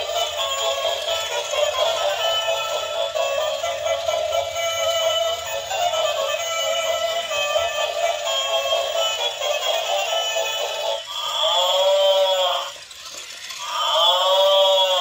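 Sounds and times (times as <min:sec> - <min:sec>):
toy playing electronic song: 0:00.0 - 0:15.0.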